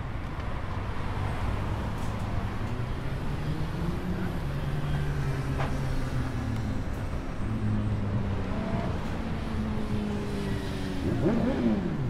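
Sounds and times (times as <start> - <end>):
vehicle engines droning: 0.0 - 12.0.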